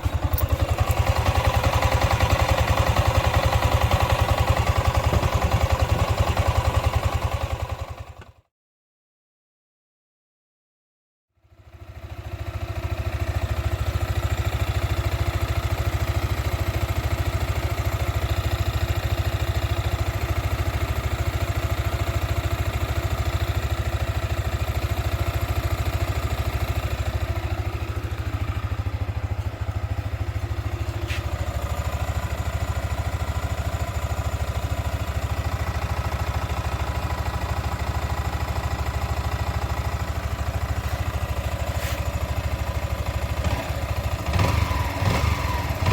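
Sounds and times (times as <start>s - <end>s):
motorcycle engine idling: 0.0s - 8.4s, 11.5s - 45.9s.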